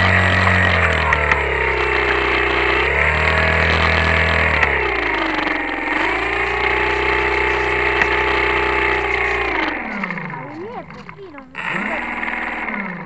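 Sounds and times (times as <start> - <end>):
electric propeller motor whine: 0.0 - 13.0.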